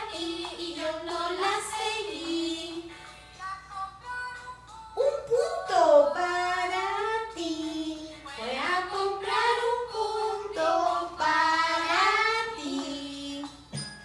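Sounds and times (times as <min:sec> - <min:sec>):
girl and woman singing: 0:00.0 - 0:13.7.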